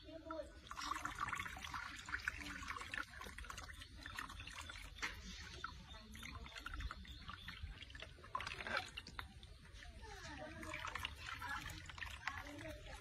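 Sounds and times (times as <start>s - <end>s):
bath water splashing and dripping: 0.6s - 13.0s.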